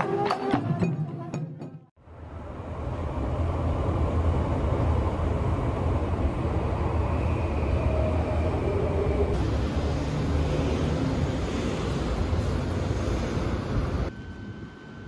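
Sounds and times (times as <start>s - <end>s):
train rumble and hiss: 2.1s - 15.0s.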